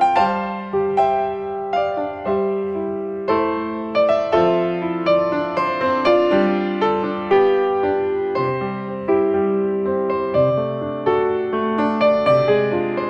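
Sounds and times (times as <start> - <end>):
slow gentle piano melody: 0.0 - 13.0.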